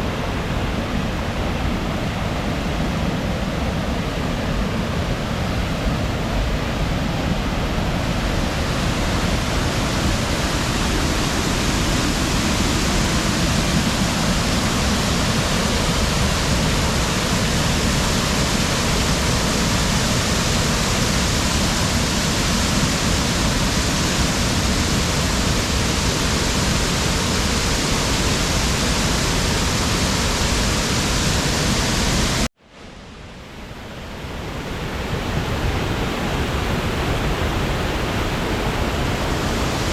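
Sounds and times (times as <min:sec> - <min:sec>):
waterfall rushing: 0:00.0 - 0:32.5, 0:33.6 - 0:39.9.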